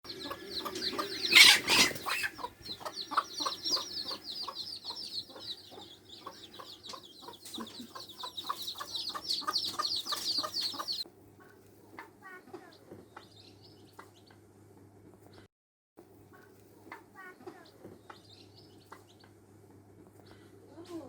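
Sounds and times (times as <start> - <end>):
chicks peeping: 0.1 - 14.4, 16.3 - 19.4
hen clucking: 0.1 - 14.4, 16.3 - 19.4.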